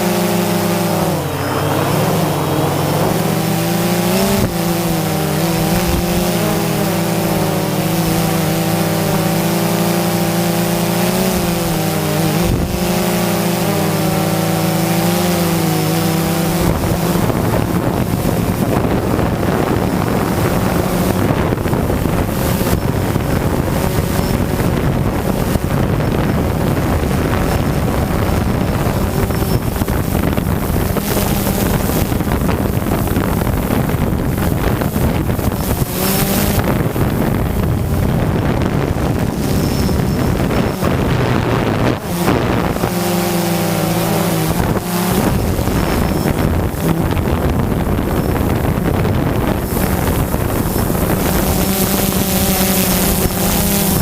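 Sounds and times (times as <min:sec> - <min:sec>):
drone propellers humming: 0:00.0 - 0:54.0
wind noise on microphone: 0:00.0 - 0:54.0.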